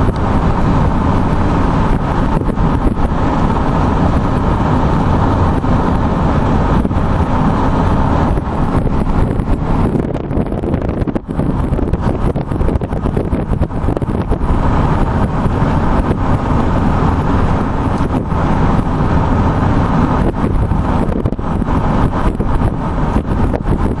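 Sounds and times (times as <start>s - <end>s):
steady low rumble: 0.0s - 24.0s
wind buffeting microphone: 0.0s - 24.0s.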